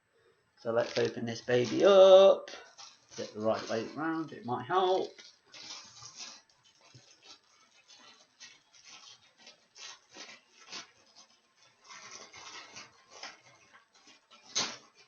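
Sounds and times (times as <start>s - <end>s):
packaging ripping: 0.7s - 15.0s
packaging rustling and scraping: 0.7s - 15.0s.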